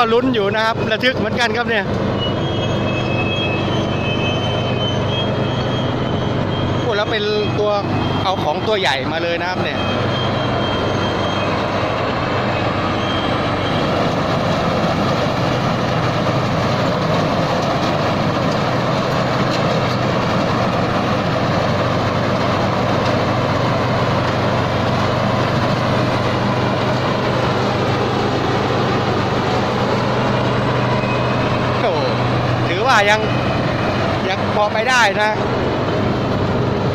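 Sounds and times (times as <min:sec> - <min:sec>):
harvester engine humming: 0:00.0 - 0:36.9.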